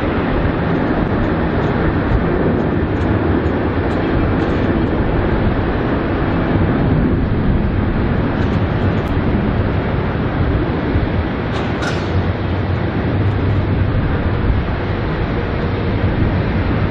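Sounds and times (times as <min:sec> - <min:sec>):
airliner jet rumble: 0:00.0 - 0:16.9.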